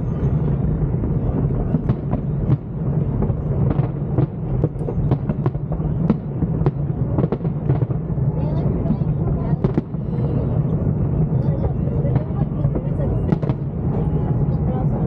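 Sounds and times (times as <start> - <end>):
fireworks bangs and cracks: 0.0 - 15.0
fireworks booming: 0.0 - 15.0.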